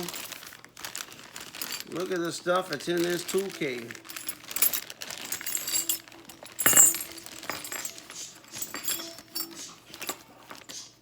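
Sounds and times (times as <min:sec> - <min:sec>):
metal tools clinking: 0:01.4 - 0:10.7.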